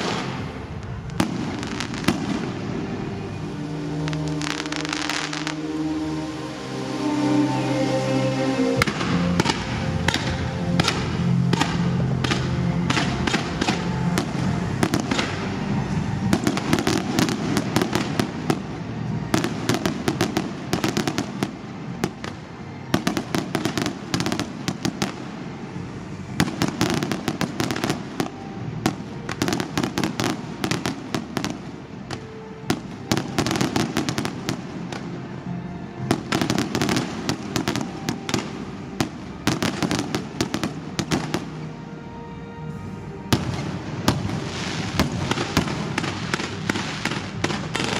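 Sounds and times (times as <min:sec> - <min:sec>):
fireworks bangs and crackles: 0:00.0 - 0:05.8, 0:08.8 - 0:41.7, 0:43.3 - 0:47.9
music playing: 0:00.0 - 0:47.9.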